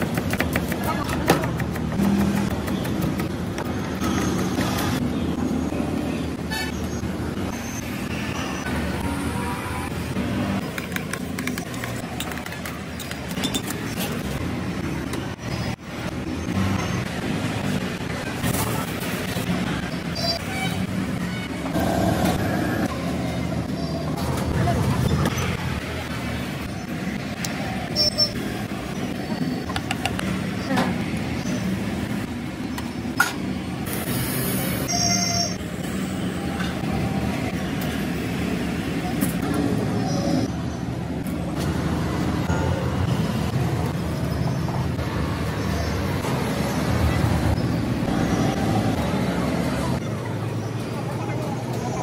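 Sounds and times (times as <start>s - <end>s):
street traffic noise: 0.0s - 52.0s.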